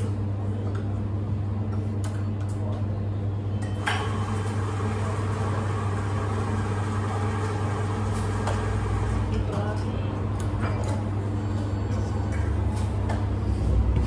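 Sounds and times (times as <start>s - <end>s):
low hum of cafe machinery: 0.0s - 14.0s.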